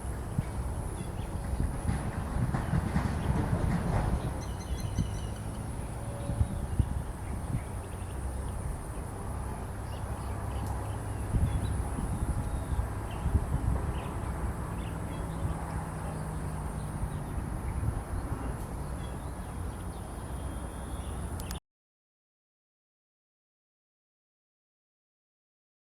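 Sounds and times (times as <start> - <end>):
wind rumble on microphone: 0.0 - 21.6.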